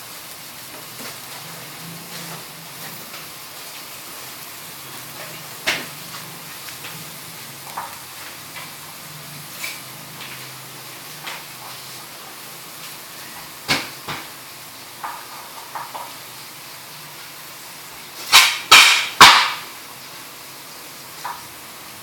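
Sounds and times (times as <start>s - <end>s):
faint simmering hiss: 0.0s - 22.0s.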